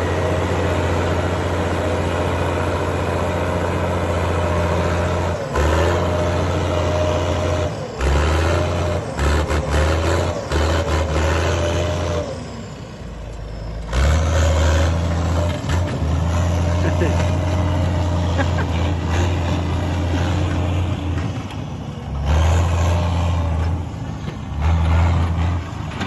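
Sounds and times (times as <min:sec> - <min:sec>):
tractor diesel engine rumbling: 0:00.0 - 0:26.0.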